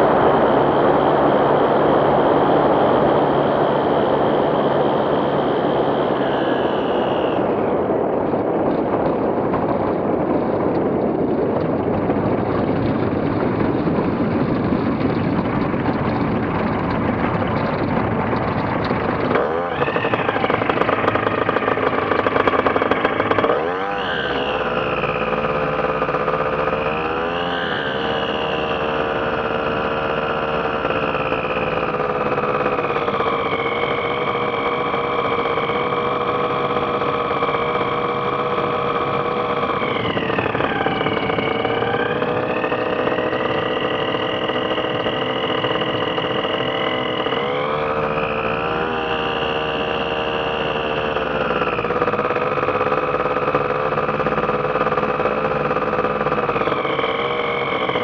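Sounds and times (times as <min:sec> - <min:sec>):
ultralight aircraft engine and propeller: 0:00.0 - 0:58.0.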